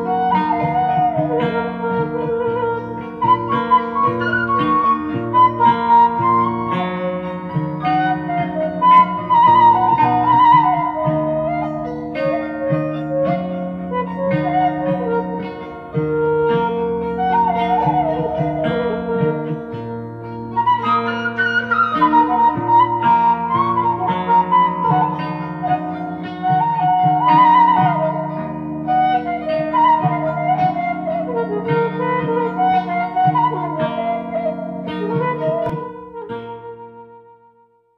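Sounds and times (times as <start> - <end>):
plucked string notes: 0.0 - 37.6
wavering wind instrument melody: 0.0 - 37.9.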